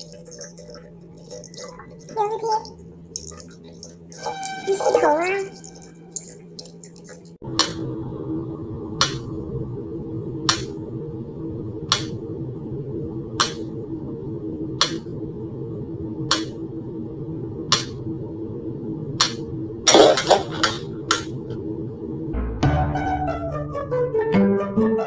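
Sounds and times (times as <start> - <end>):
steady low hum: 0.0 - 23.3.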